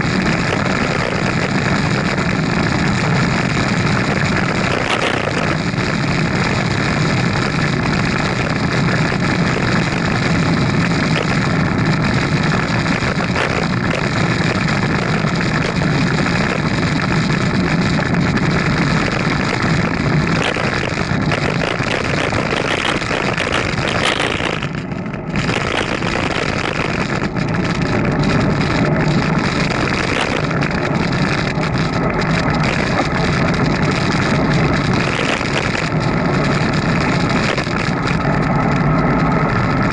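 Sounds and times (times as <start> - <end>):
road and traffic noise: 0.0 - 39.9
wind buffeting microphone: 0.0 - 39.9.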